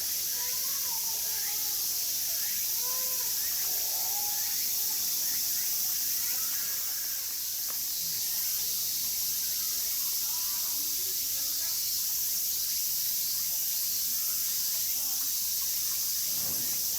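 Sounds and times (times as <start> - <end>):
faint distant voices: 0.0 - 16.9
insects hissing: 0.0 - 16.9.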